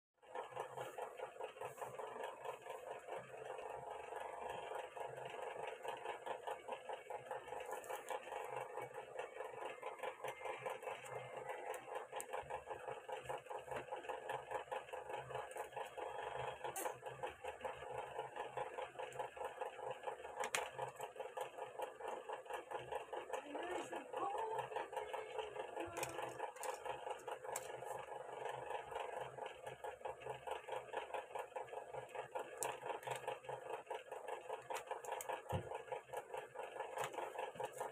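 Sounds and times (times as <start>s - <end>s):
small machine pulsing: 0.2s - 37.9s.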